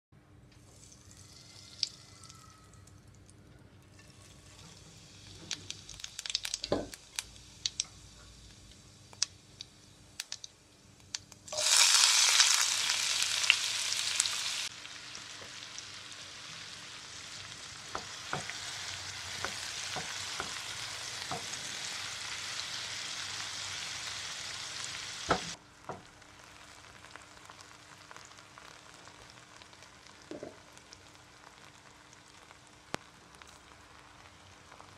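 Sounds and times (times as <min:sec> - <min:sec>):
onions sizzling in oil: 0:00.6 - 0:02.5, 0:03.9 - 0:34.9.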